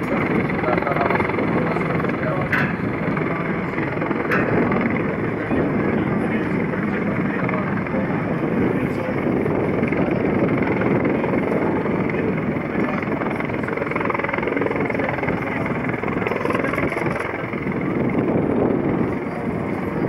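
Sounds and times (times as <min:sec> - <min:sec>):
helicopter hovering: 0:00.0 - 0:20.0.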